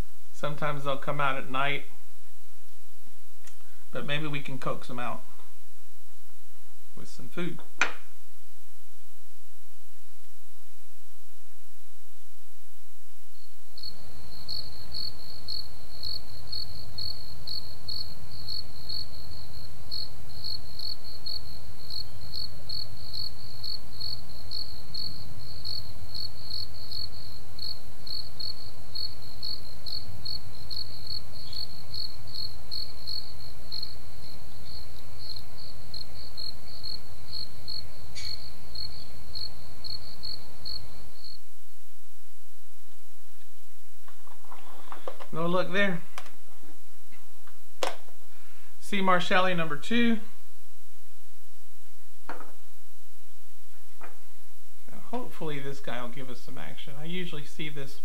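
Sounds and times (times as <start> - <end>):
cricket chirping: 0.0 - 48.6.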